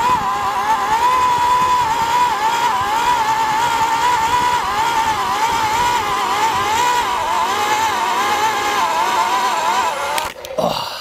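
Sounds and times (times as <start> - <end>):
earth auger drilling into soil: 0.0 - 10.8.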